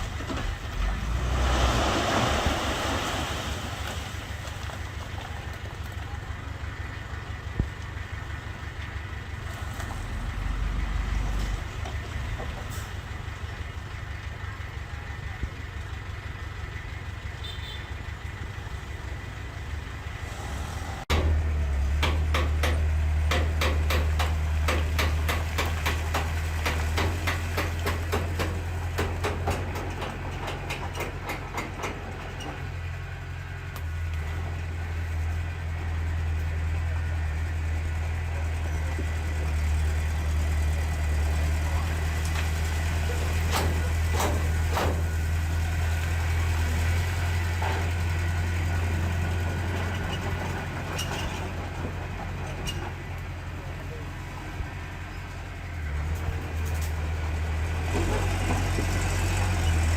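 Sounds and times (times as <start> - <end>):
diesel machinery engine rumble: 0.0 - 59.9.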